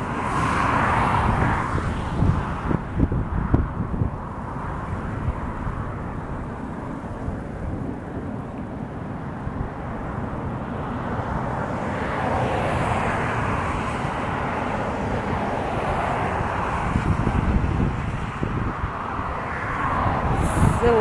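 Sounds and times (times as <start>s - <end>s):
freight train rumbling over bridge: 2.2s - 21.0s.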